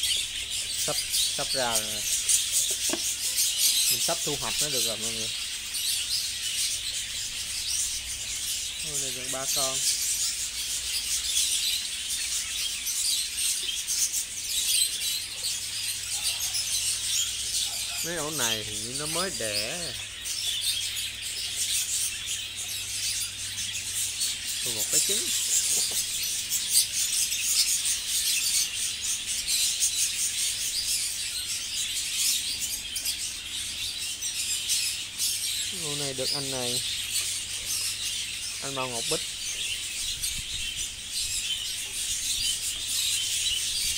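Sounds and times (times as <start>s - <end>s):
budgerigars chattering: 0.0s - 43.9s.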